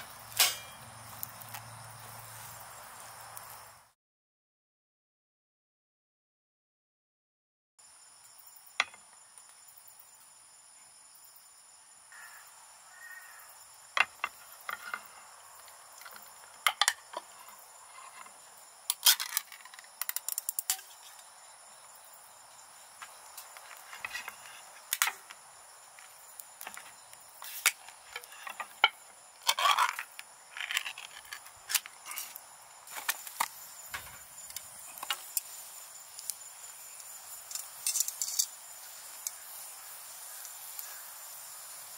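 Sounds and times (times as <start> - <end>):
insects trilling: 0.0 - 4.0, 7.8 - 41.9.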